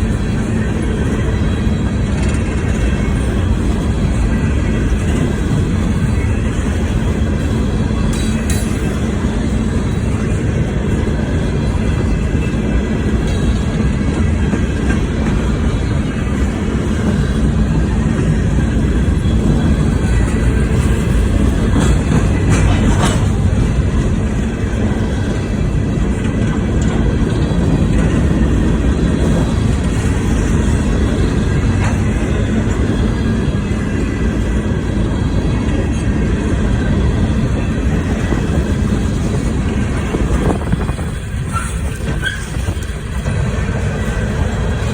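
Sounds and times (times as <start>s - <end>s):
freight train wheels rumbling: 0.0s - 44.9s
train clanks: 0.0s - 44.9s.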